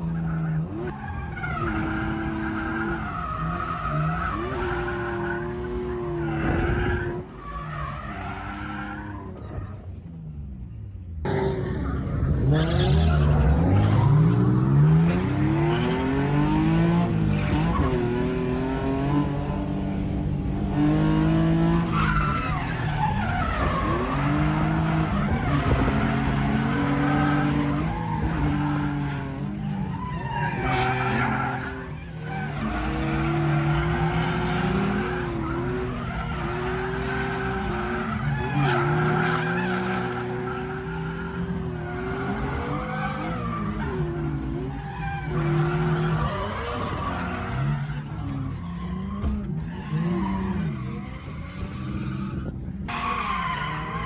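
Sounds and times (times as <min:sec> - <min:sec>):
car engine revving: 0:00.0 - 0:54.0
tyres squealing and skidding: 0:00.0 - 0:54.0.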